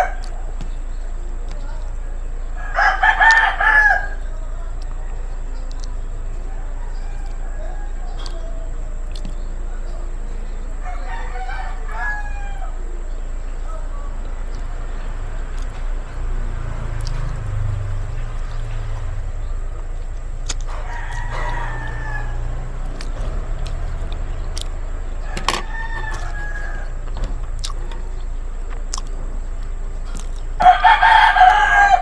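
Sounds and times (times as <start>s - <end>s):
roosters crowing: 0.0s - 32.0s
steady low hum: 0.0s - 32.0s.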